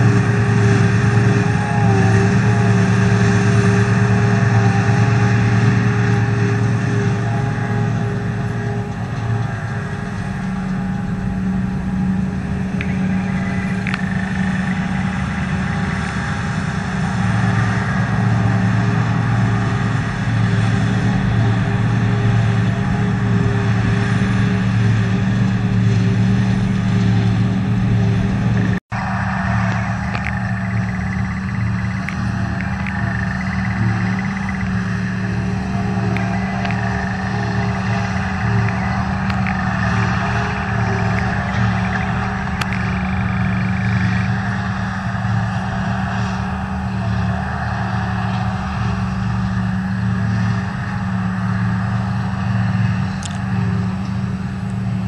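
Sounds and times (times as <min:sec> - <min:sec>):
harvester and tractor engines droning: 0:00.0 - 0:55.0.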